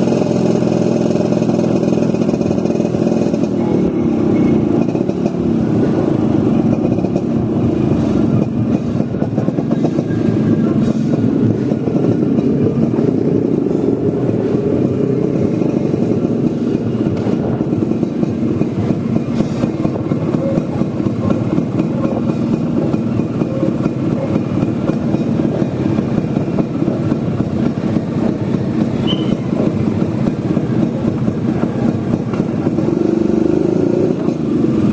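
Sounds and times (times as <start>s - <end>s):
road noise rushing: 0.0s - 34.9s
scooter engine running: 0.0s - 34.9s.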